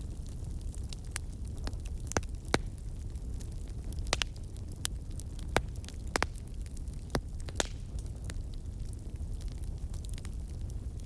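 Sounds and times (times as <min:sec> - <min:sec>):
campfire crackling: 0:00.0 - 0:11.0
burning wood popping: 0:00.1 - 0:11.0.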